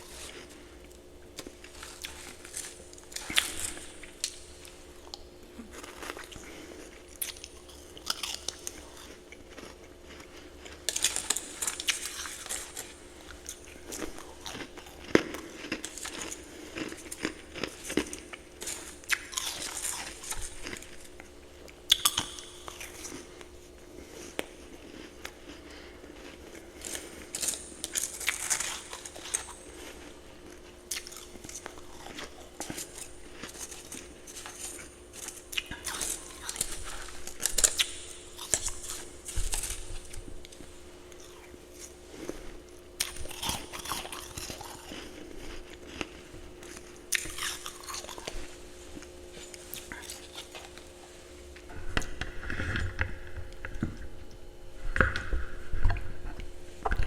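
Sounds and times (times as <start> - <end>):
person chewing ice: 0.0 - 53.8
faint steady hum: 0.0 - 57.0.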